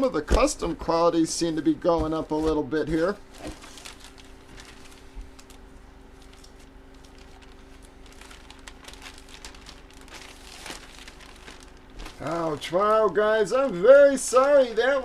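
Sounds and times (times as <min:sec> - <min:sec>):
low electrical hum: 0:00.0 - 0:15.0
packaging rustling and clicking: 0:02.3 - 0:15.0.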